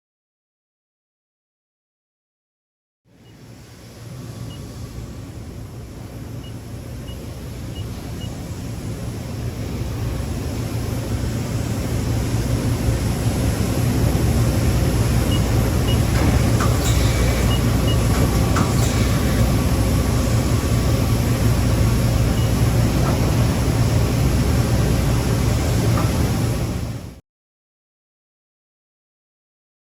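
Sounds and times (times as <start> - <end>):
lathe machine drone: 3.2 - 27.2.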